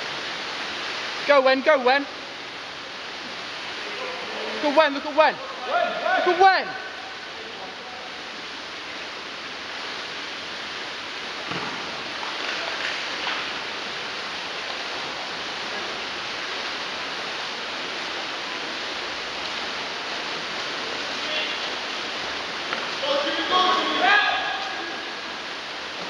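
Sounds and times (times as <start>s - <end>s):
water splashing in indoor pool: 0.0s - 26.0s.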